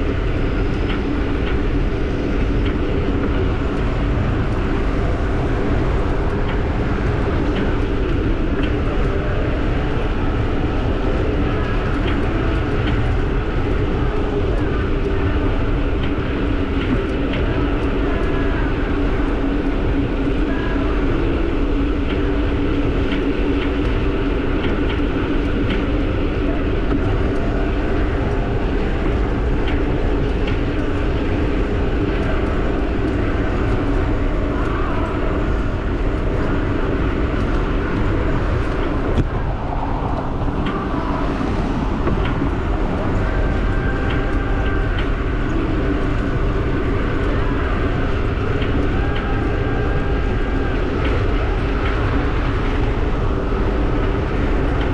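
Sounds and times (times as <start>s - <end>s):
wind on microphone: 0.0s - 54.9s.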